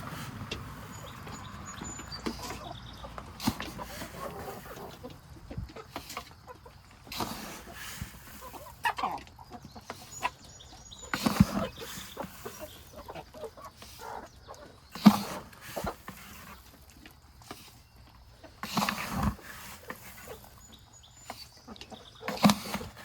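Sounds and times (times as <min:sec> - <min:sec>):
poultry feed being scooped: 0:00.0 - 0:05.2, 0:05.8 - 0:23.0
hens clucking: 0:00.0 - 0:23.0.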